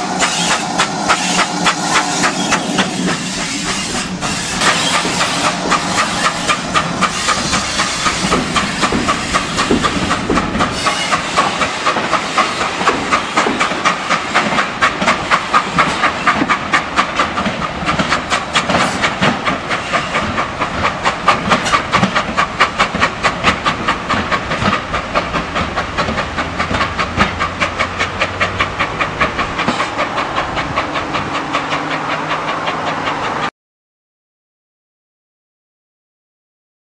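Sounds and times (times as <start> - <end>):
steam hissing: 0.0 - 33.5
steam locomotive exhaust beats: 0.0 - 33.5.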